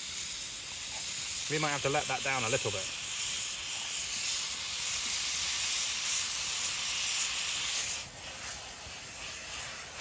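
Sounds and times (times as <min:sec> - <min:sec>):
frying pan sizzling: 0:00.0 - 0:10.0.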